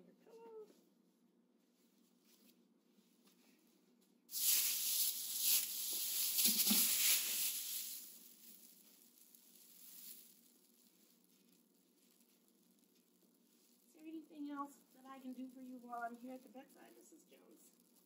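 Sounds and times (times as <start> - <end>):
bedding rustling: 1.6 - 18.0.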